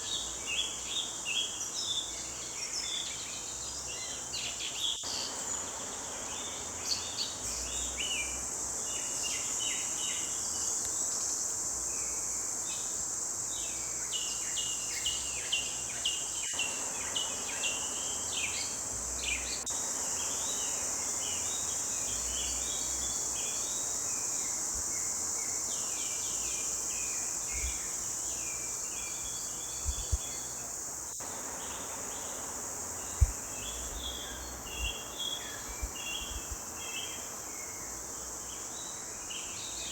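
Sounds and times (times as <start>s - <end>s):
high insect drone: 0.0s - 39.9s
songbirds chirping: 0.0s - 39.9s.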